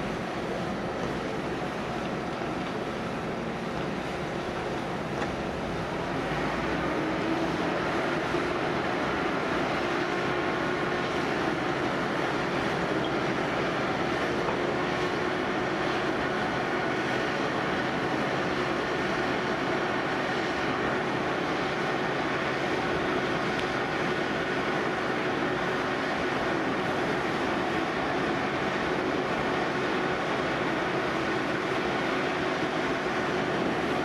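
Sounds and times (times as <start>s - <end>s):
fire engine pump drone: 0.0s - 34.0s.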